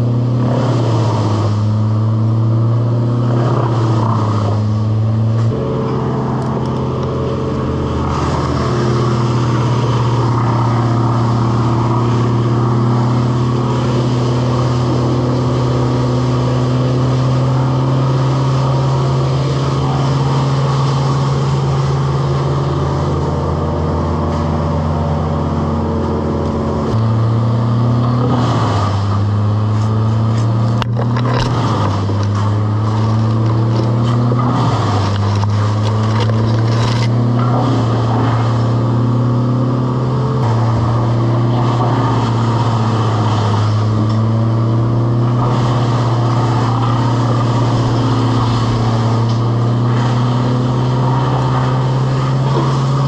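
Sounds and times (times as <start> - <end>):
engine running steadily: 0.0 - 53.0.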